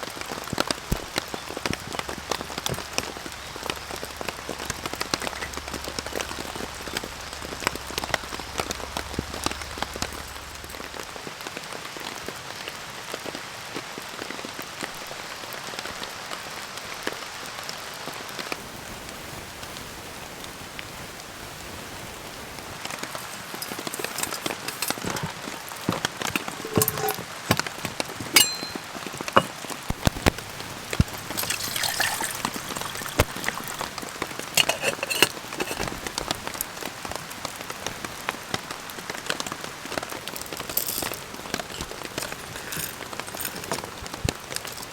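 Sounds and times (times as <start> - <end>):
rain pattering: 0.0 - 26.6, 27.3 - 34.6, 35.3 - 44.9.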